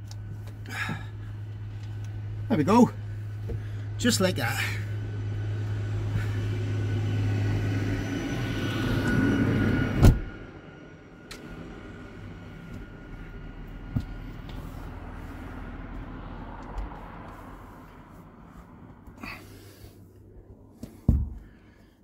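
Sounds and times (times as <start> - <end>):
car engine running: 0.0 - 21.6
faint hum: 0.0 - 22.0.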